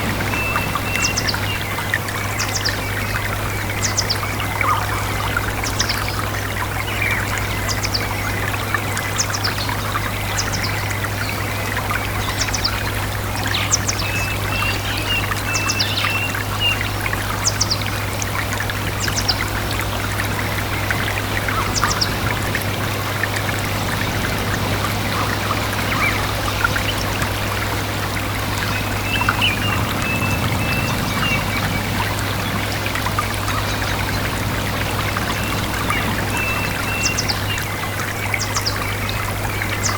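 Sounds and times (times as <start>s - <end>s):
birds chirping: 0.0s - 39.9s
stream trickling and babbling: 0.0s - 39.9s.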